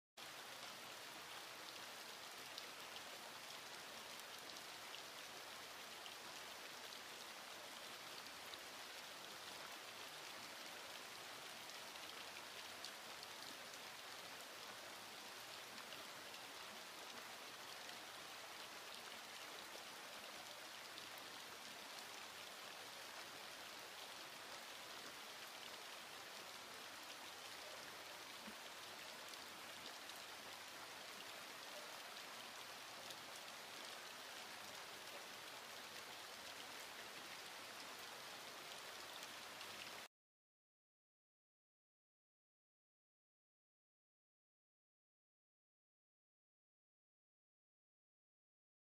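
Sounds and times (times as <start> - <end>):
quiet rain falling: 0.2 - 40.1.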